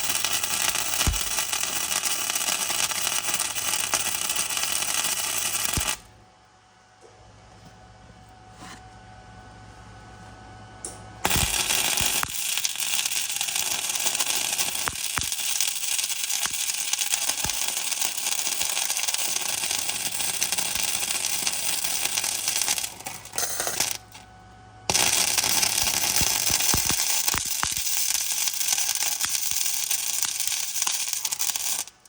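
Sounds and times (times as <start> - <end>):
welding arc crackling hiss: 0.0 - 6.1, 11.2 - 24.3, 24.9 - 32.0.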